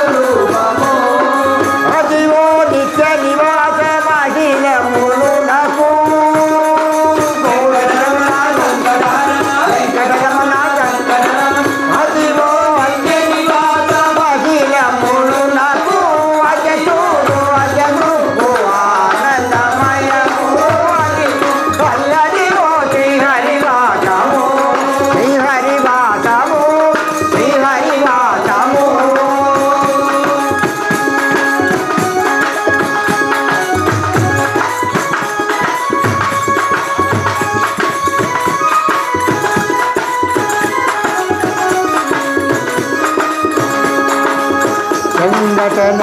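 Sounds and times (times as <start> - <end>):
hand percussion beat: 0.0 - 46.0
men singing into microphones: 0.0 - 46.0.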